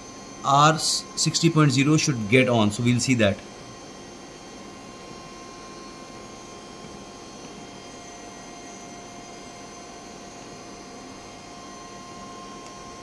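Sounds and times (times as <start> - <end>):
machine electrical hum: 0.0 - 13.0.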